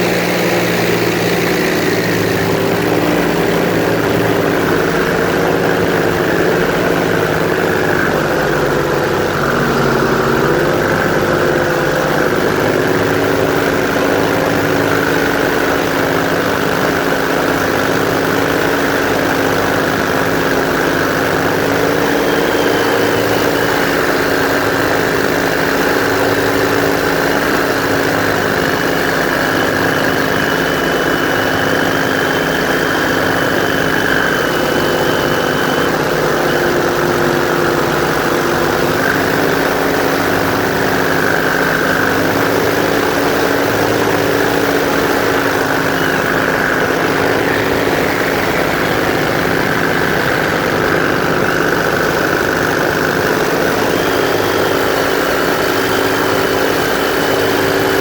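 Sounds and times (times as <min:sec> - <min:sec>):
airboat engine and propeller: 0:00.0 - 0:58.0.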